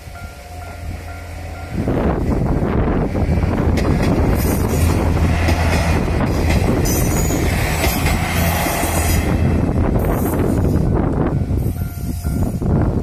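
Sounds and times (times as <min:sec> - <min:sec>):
diesel railcar engine humming: 0:00.0 - 0:13.0
train wheels on rails: 0:00.0 - 0:13.0.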